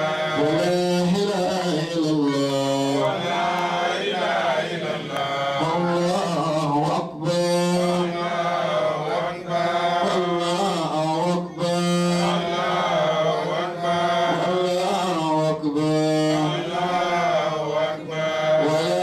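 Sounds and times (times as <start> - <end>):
man chanting into a microphone: 0.0 - 19.0.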